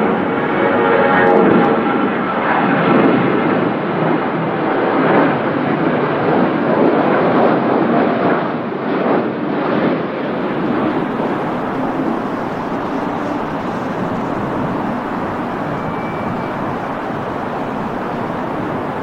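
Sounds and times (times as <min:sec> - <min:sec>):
airplane rushing roar: 0:00.0 - 0:19.0.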